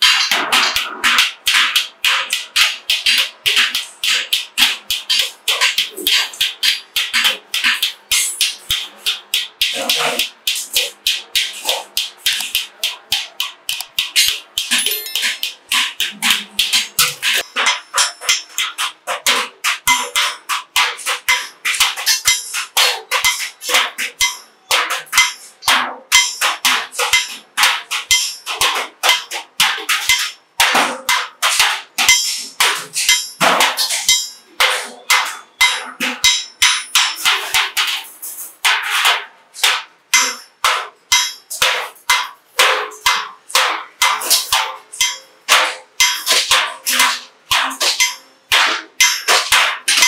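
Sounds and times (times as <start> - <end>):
hammer striking steel sheet: 0.0 - 50.0.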